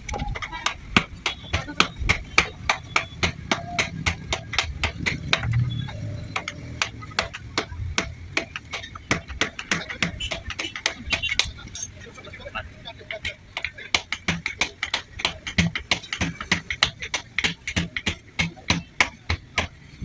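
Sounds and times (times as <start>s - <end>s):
rapid hammer blows on metal: 0.1s - 11.9s, 13.1s - 20.0s.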